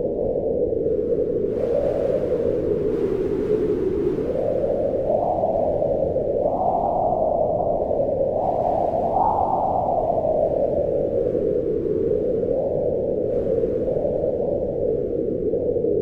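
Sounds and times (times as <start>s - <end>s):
wind blowing in gusts: 0.0s - 16.0s.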